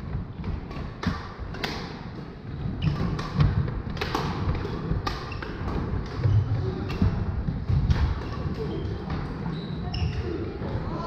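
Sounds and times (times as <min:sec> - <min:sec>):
rackets hitting shuttlecocks: 0:00.1 - 0:10.8.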